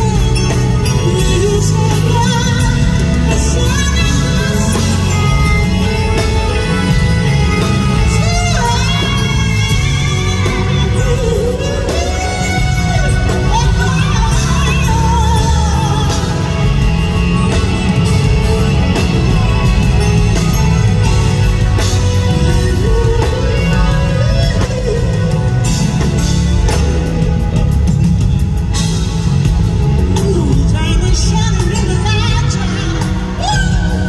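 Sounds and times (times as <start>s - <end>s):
live r and b band playing: 0.0s - 34.0s.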